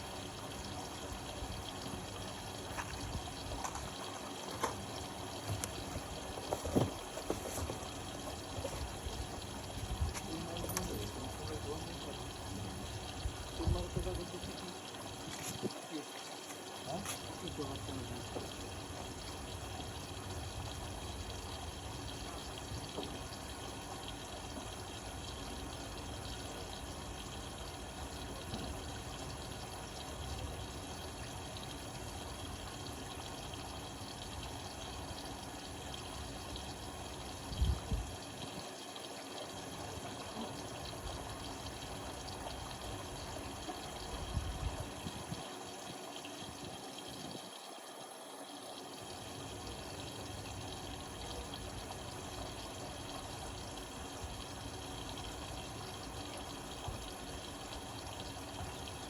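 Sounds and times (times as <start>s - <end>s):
water sloshing in washing machine: 0.0s - 59.0s.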